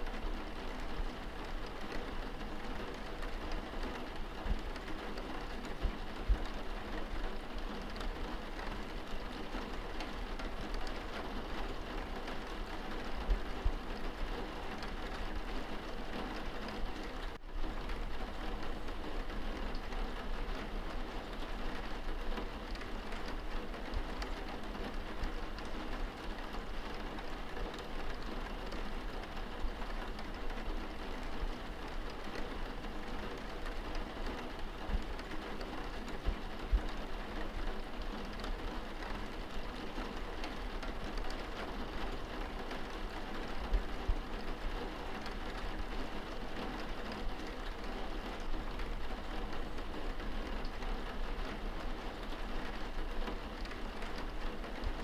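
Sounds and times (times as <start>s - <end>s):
rain on window glass: 0.0s - 55.0s.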